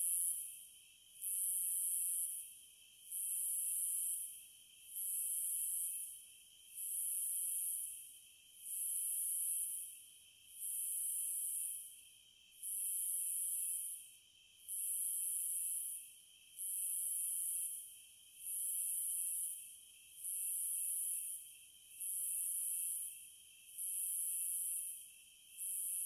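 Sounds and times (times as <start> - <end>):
low steady cicada buzz: 0.0 - 26.0.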